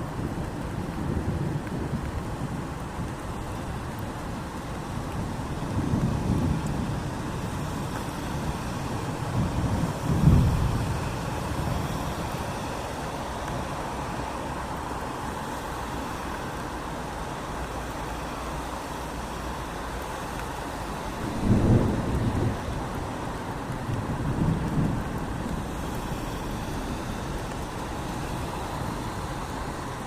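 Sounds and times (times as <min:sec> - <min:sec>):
rain on a street: 0:00.0 - 0:30.0.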